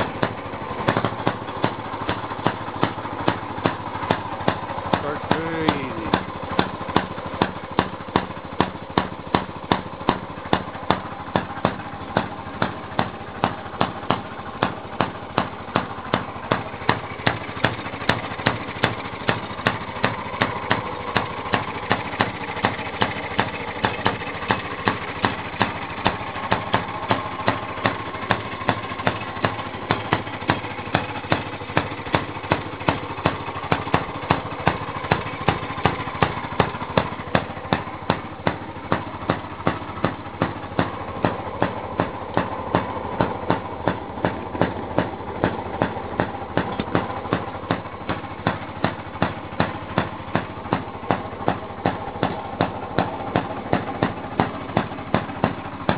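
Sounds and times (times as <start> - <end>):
single-cylinder engine running: 0.0 - 55.9.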